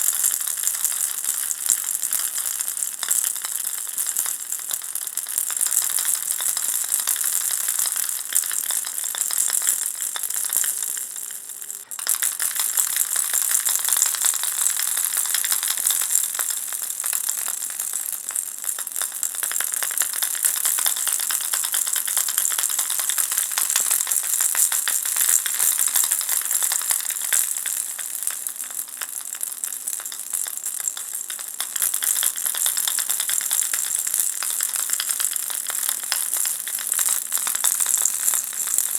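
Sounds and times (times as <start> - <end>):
ball rattle shaken: 0.0 - 38.9.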